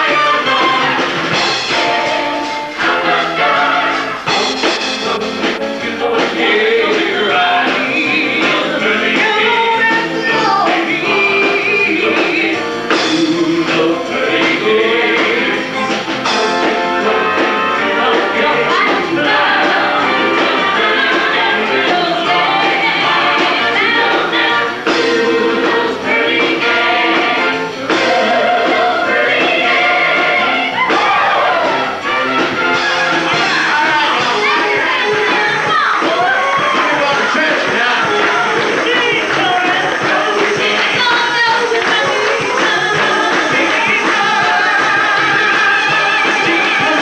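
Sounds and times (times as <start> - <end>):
instrumental backing music: 0.0 - 47.0
voices singing: 0.0 - 47.0.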